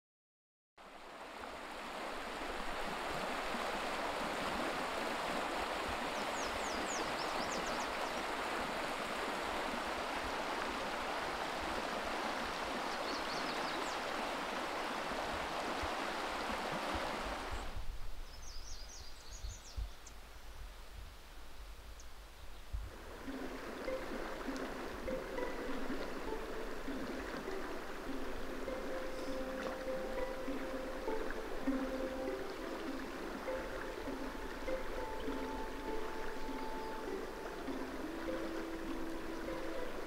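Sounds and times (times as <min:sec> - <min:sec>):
river rushing over riffles: 0:00.8 - 0:17.7, 0:22.9 - 0:40.0.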